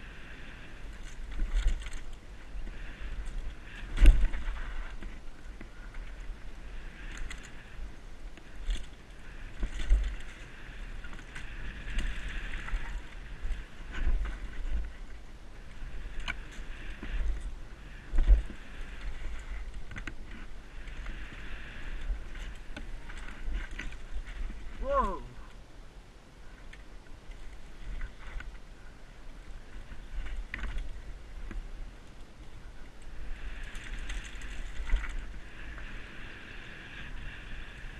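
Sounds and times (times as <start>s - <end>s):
tyres on dirt trail: 0.0s - 37.9s.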